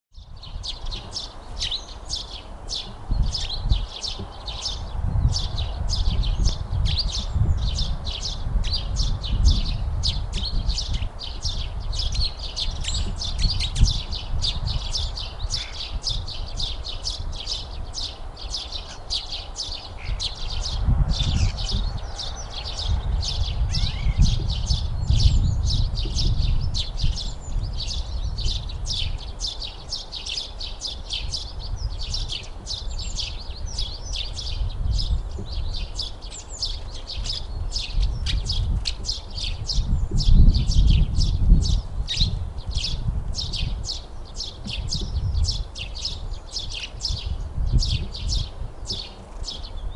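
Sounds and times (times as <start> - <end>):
small birds chirping: 0.1 - 49.9.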